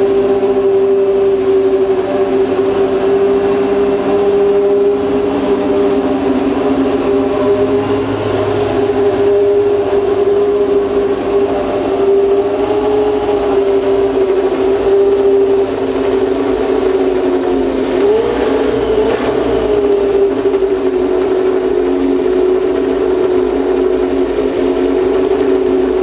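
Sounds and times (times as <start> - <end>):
racing car engine running: 0.0 - 26.0.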